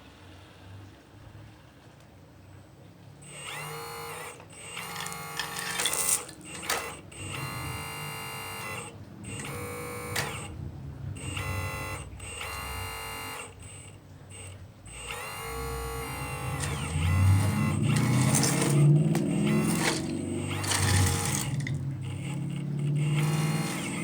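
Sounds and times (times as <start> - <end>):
hydraulic pump motor whining: 3.2 - 10.5, 11.2 - 24.0.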